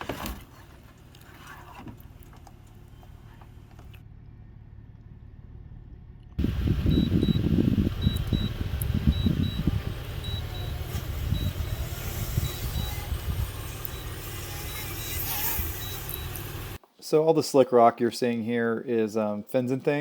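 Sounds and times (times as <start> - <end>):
low rumbling vehicle noise: 0.0 - 16.8.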